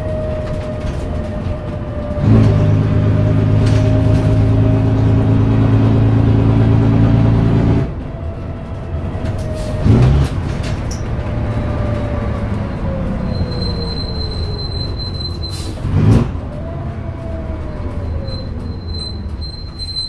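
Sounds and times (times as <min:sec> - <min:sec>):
bus diesel engine: 0:00.0 - 0:20.0.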